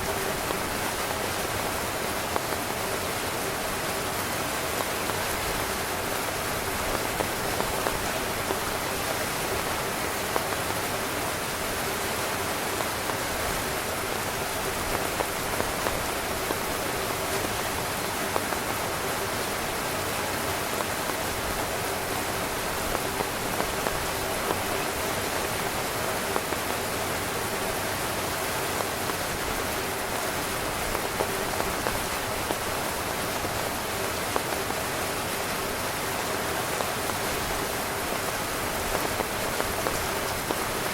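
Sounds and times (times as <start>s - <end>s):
heavy rain on a tent: 0.0s - 40.9s
raindrops tapping on fabric: 0.0s - 40.9s.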